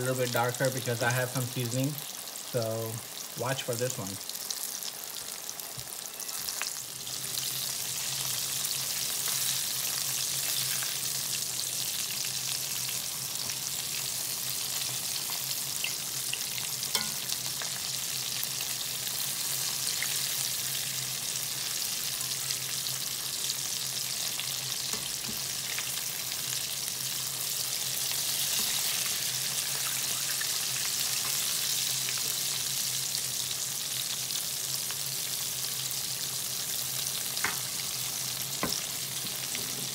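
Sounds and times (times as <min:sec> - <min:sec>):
oil sizzling deep-frying: 0:00.0 - 0:39.9.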